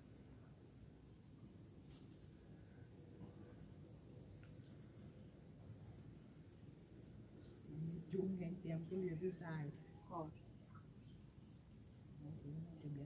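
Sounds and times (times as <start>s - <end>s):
insect chirping faintly: 0.0s - 13.0s.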